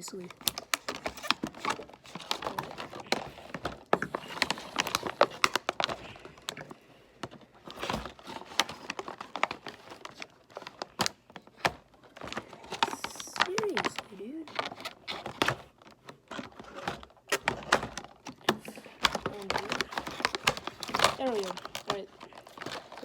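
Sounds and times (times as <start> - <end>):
plastic packaging cracking and crinkling: 0.0 - 23.0.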